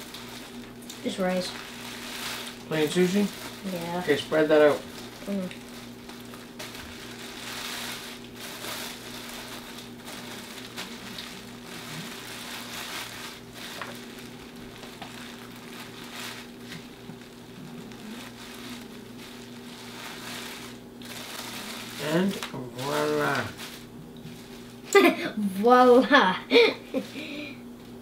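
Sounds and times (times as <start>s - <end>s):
plastic bag crinkling: 0.0s - 24.9s, 26.5s - 28.0s
steady low hum: 0.0s - 28.0s.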